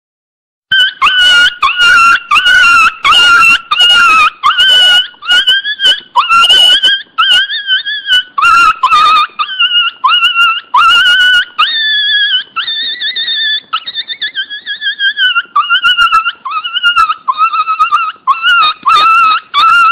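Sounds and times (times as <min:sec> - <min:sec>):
puppy whining cries: 0:00.7 - 0:19.9.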